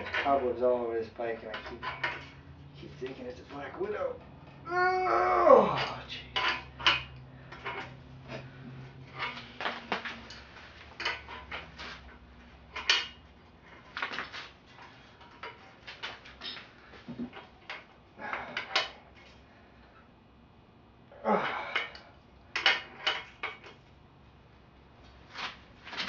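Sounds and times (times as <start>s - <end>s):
metal tools clanking and scraping: 0.0s - 4.6s, 5.6s - 20.1s, 21.5s - 23.8s.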